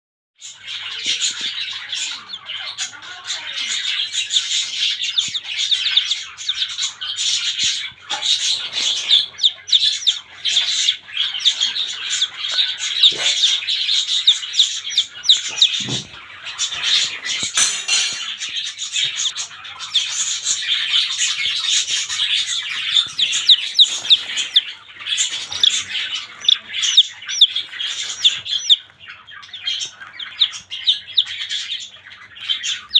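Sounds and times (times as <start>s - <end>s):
chicks peeping: 0.4s - 32.9s.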